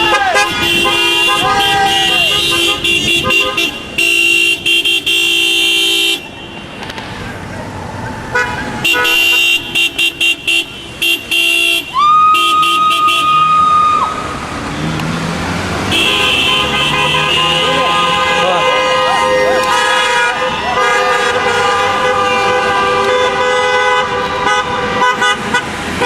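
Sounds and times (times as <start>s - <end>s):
car horns honking: 0.0s - 7.5s, 8.2s - 26.0s.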